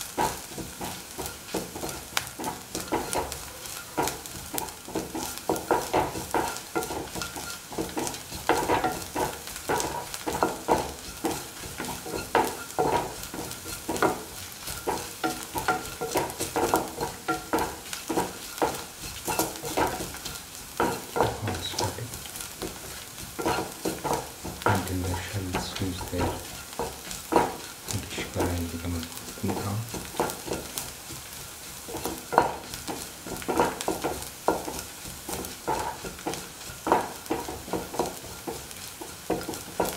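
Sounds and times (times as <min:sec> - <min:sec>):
food sizzling in hot oil: 0:00.0 - 0:39.9
scraping against pan: 0:00.0 - 0:39.9.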